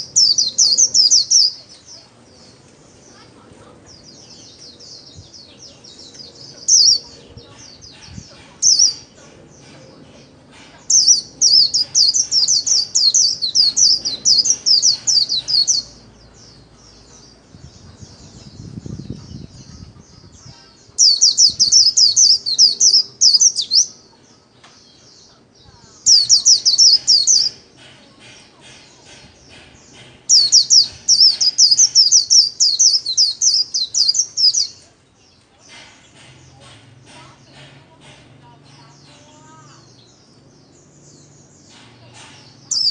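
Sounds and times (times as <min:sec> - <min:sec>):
bird warbling song: 0:00.0 - 0:42.9.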